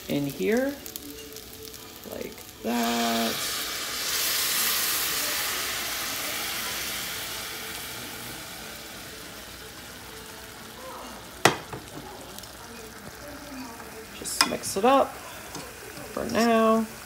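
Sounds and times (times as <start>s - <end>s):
sauce sizzling hiss: 0.0s - 17.0s.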